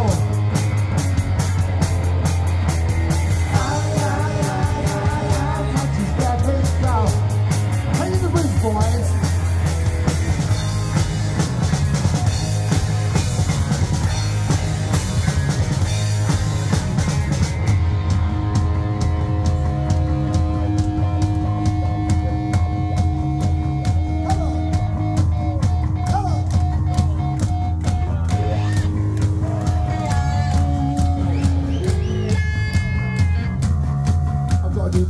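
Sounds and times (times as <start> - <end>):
drum beats: 0.0 - 35.0
punk rock band playing: 0.0 - 35.0.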